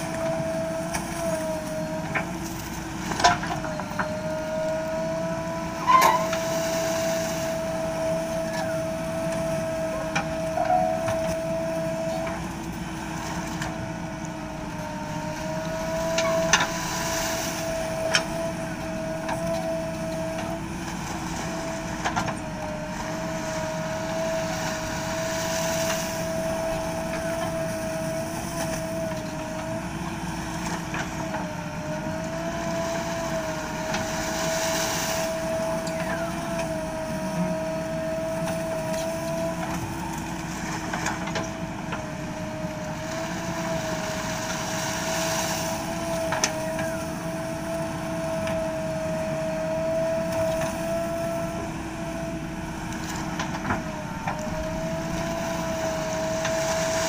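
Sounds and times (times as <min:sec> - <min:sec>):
backhoe loader engine: 0:00.0 - 0:57.0
wavering whine: 0:00.0 - 0:57.0.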